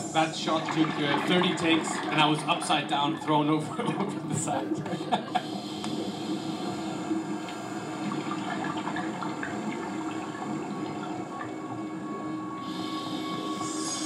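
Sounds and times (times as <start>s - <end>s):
rushing and bubbling water: 0.0s - 13.7s.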